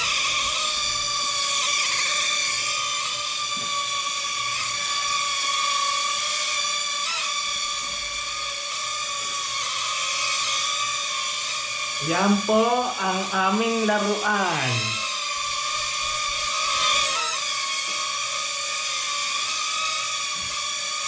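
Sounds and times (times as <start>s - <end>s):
toy propeller motors whining: 0.0s - 12.0s, 14.8s - 21.0s.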